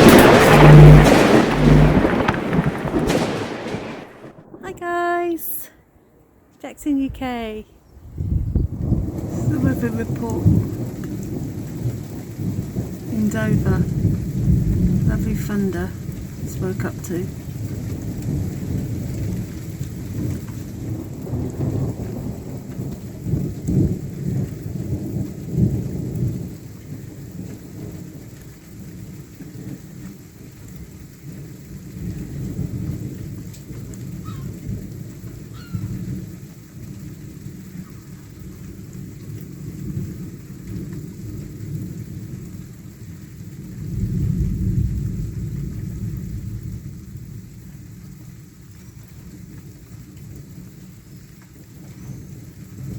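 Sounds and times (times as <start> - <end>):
steady rain: 0.0 - 5.7, 7.6 - 52.9
thunder rumbling: 0.0 - 30.0, 31.3 - 50.8.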